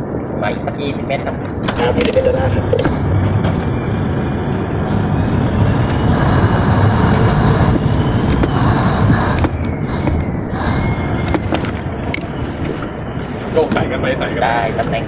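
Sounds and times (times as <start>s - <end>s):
boat engines rumbling: 0.0s - 15.0s
strong wind noise: 0.0s - 15.0s.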